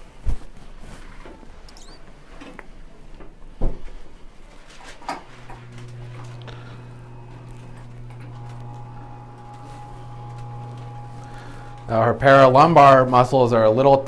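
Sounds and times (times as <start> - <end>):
low electric hum: 0.0 - 14.0.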